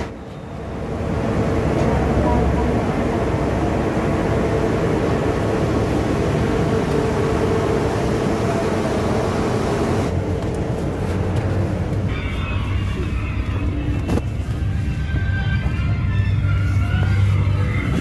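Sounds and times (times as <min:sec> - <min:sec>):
diesel coach engine idling: 0:00.0 - 0:18.0.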